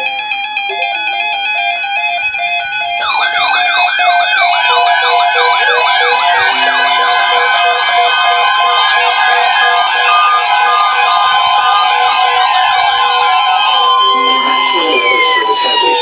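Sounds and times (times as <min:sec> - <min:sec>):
electronic beeping tune: 0:00.0 - 0:16.0
siren-style sweeping tones: 0:00.0 - 0:16.0.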